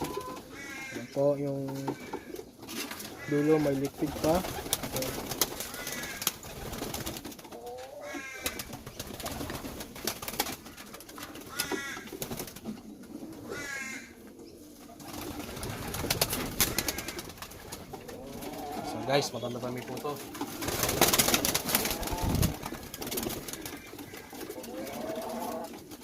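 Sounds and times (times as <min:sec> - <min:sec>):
pigeons calling: 0:00.0 - 0:26.0.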